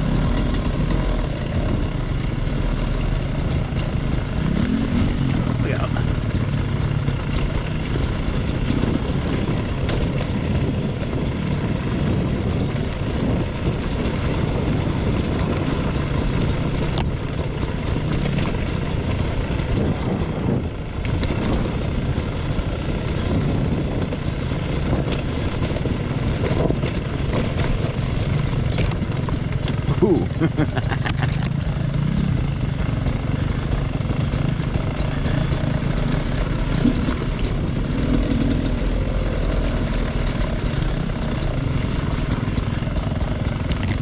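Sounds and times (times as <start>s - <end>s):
bike rattling and knocking: 0.0s - 44.0s
dirt bike engine running: 0.0s - 44.0s.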